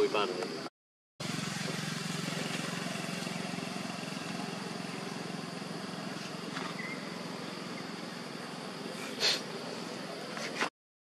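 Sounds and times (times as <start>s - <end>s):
small engine idling: 1.2s - 10.3s.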